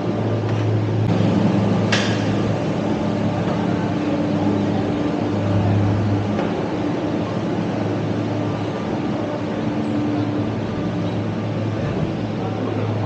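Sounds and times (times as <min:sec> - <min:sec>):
cable car machinery humming: 0:00.0 - 0:13.0.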